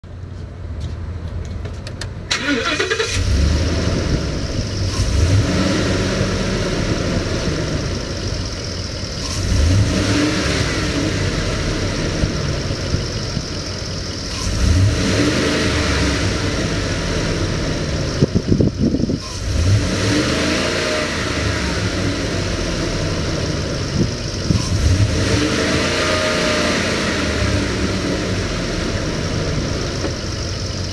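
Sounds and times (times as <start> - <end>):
pickup engine idling and revving: 0.0 - 30.9.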